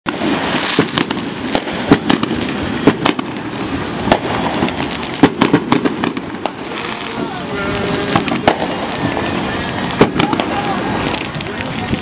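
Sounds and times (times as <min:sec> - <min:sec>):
fireworks bangs and pops: 0:00.1 - 0:12.0.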